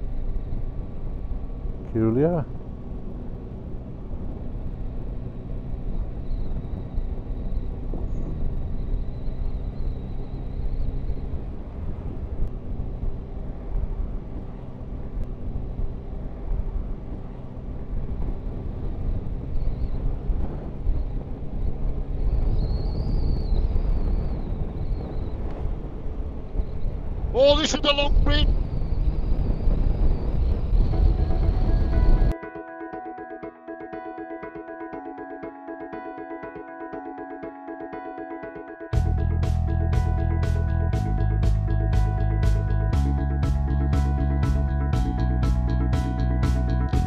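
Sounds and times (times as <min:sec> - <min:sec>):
motorcycle engine cruising: 0:00.0 - 0:27.3, 0:28.4 - 0:32.4, 0:38.9 - 0:47.0
wind and road noise: 0:00.0 - 0:32.4, 0:35.0 - 0:47.0.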